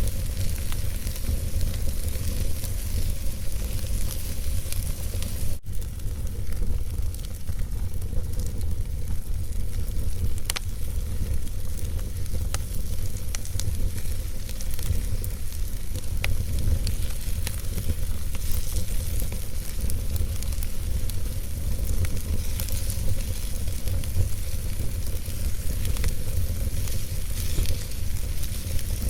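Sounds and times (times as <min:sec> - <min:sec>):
fire crackling and popping: 0:00.0 - 0:29.0
fire rumbling and hissing: 0:00.0 - 0:29.0.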